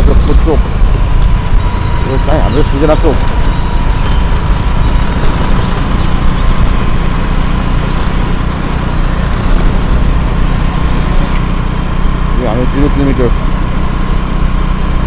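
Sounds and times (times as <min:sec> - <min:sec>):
wind buffeting microphone: 0:00.0 - 0:12.2
motorbike engine roar: 0:00.0 - 0:15.0.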